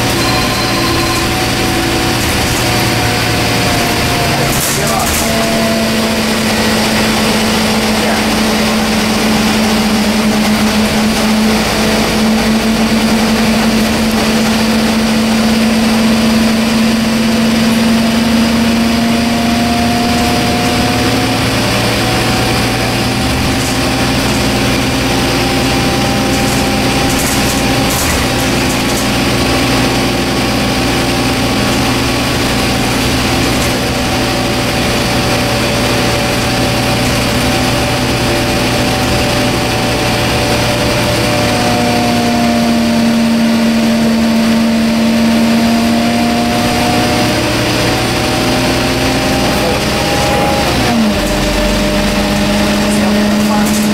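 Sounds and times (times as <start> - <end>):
bus diesel engine drone: 0.0 - 53.9
road noise: 0.0 - 53.9.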